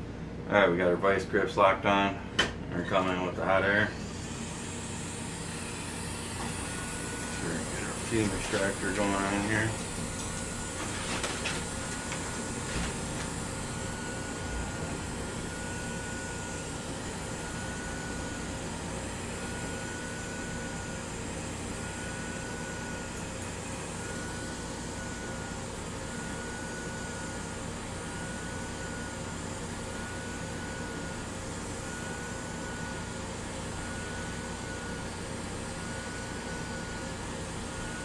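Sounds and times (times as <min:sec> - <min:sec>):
extractor fan running: 0:00.0 - 0:38.0.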